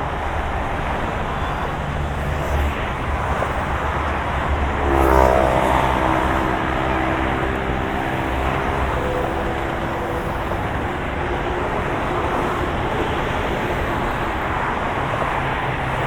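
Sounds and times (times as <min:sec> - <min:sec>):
car road rumble and tyre noise: 0:00.0 - 0:16.0
engine hum: 0:00.0 - 0:16.0.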